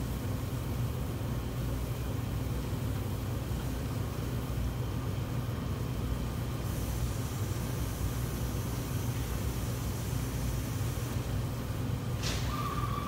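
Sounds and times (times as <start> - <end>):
kitchen machinery hum and hiss: 0.0 - 13.0.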